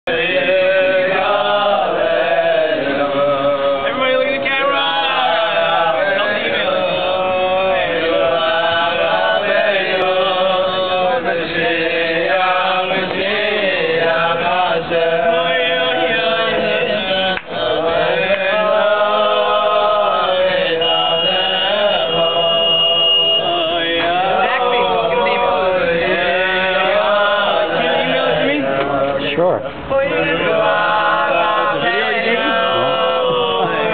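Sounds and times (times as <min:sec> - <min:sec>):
men singing in unison: 0:00.0 - 0:33.9.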